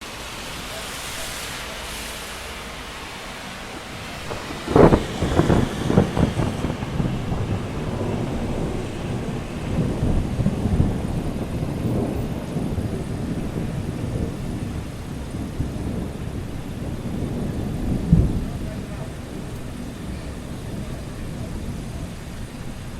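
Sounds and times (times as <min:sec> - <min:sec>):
rain hissing: 0:00.0 - 0:22.9
thunder rumbling: 0:00.0 - 0:22.9.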